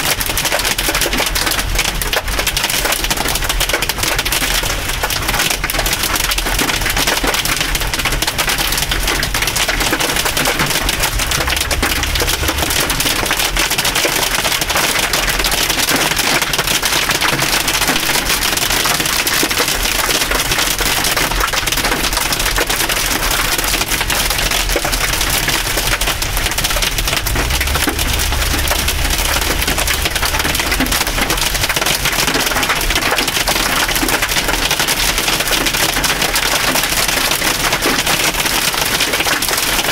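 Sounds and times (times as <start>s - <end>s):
hail and rain pelting car roof: 0.0s - 39.9s.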